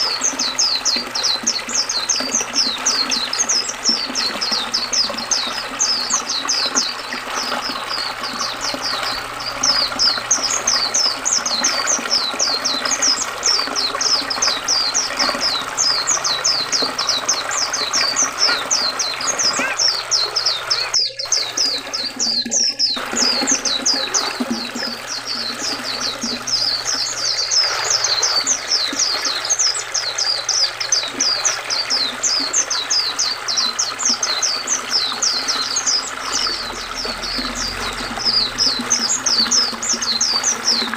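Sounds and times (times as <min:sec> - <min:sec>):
birds twittering: 0:00.0 - 0:40.9
river water running: 0:00.0 - 0:40.9.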